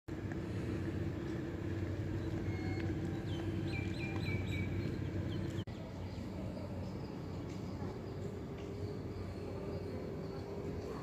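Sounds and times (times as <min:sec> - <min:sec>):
train rumbling: 0:00.1 - 0:11.0
bird chirping: 0:02.1 - 0:11.0.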